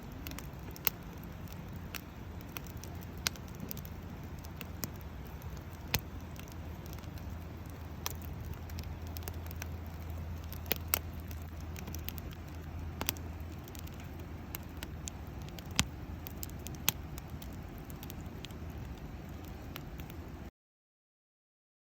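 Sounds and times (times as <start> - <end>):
low hum: 0.0 - 20.5
wood fire crackling: 0.0 - 20.5.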